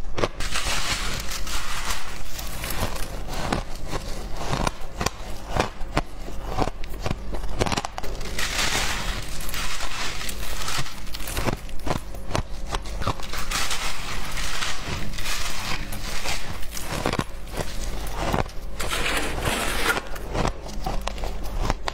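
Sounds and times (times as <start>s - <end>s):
shaved ice being chewed: 0.0s - 21.9s.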